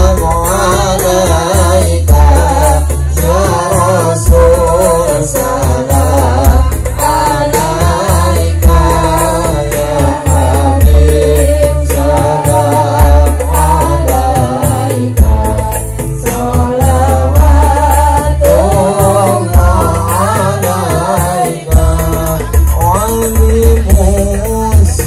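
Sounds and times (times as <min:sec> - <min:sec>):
heavy bass line: 0:00.0 - 0:25.0
loud music with singing: 0:00.0 - 0:25.0.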